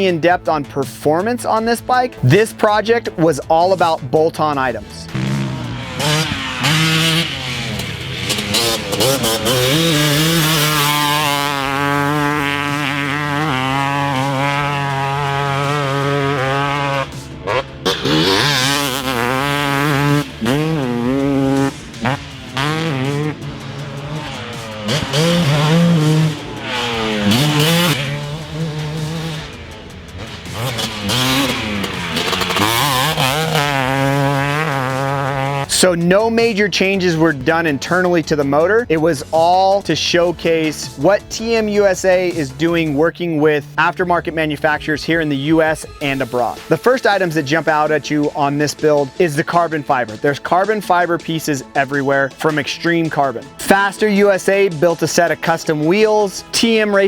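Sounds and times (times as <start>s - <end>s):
dirt bike engine revving: 1.4s - 57.0s.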